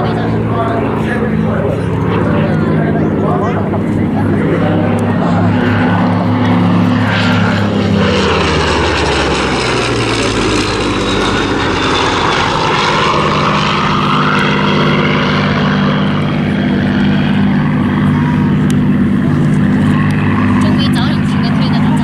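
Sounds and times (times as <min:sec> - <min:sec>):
aircraft piston engine: 0:00.0 - 0:22.0.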